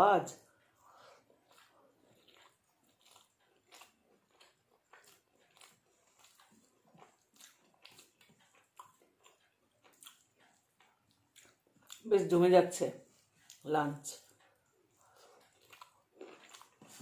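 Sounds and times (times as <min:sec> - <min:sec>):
person chewing food: 0:00.4 - 0:12.1, 0:13.0 - 0:17.0.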